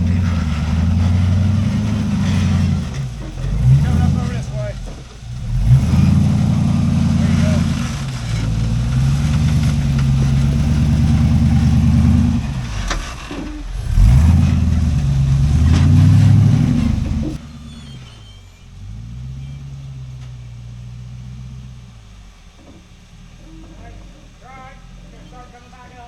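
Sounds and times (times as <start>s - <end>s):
engine revving hard: 0.0s - 26.0s
quieter engine at steady revs: 0.0s - 26.0s.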